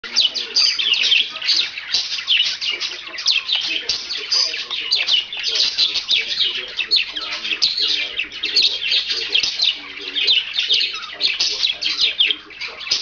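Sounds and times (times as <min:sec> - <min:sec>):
budgerigar warbling and chattering: 0:00.0 - 0:13.0.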